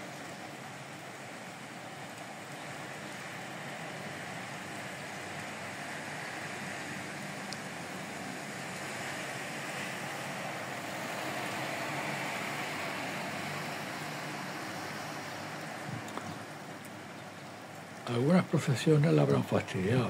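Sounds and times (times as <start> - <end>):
rain falling on hard surfaces: 0.0 - 20.0.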